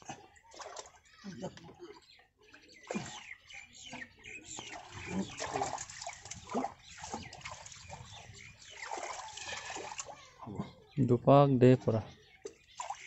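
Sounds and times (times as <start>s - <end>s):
muddy water sloshing and splashing: 0.0s - 2.0s, 2.7s - 10.9s, 12.2s - 13.0s.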